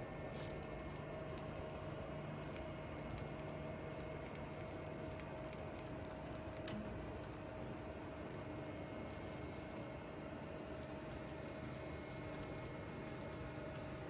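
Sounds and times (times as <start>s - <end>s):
filament crackles and pops: 0.0s - 14.0s
printer whine and hum: 0.0s - 14.0s.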